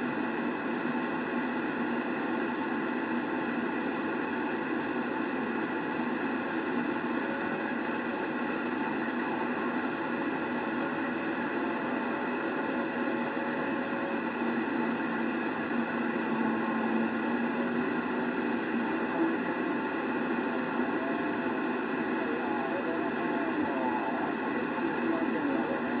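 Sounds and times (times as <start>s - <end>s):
faint steady tones: 0.0s - 26.0s
radio static hiss: 0.0s - 26.0s.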